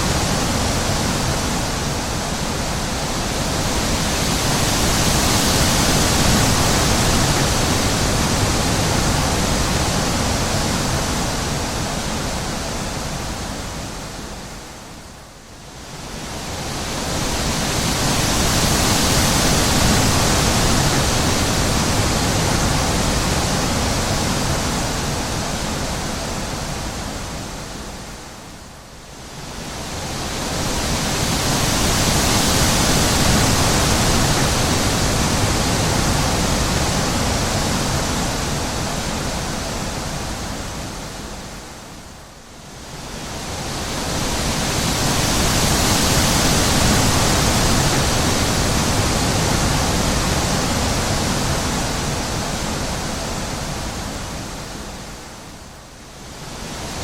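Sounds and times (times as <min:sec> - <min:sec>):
wind blowing in gusts: 0:00.0 - 0:57.0.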